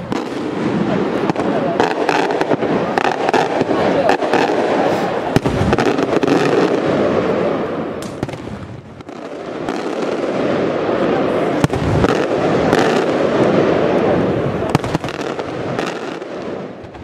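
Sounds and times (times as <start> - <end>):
firework explosions: 0.0 - 17.0
sharp firework bangs: 0.0 - 17.0.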